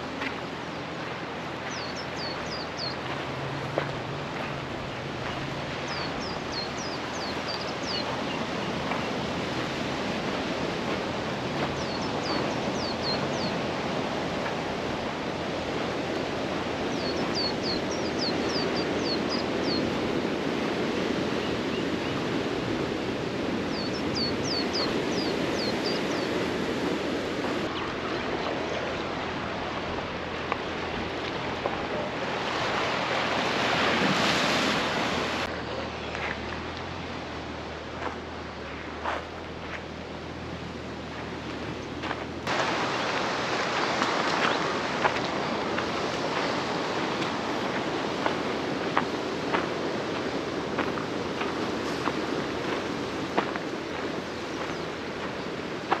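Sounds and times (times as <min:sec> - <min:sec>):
ocean surf washing: 0:00.0 - 0:56.0.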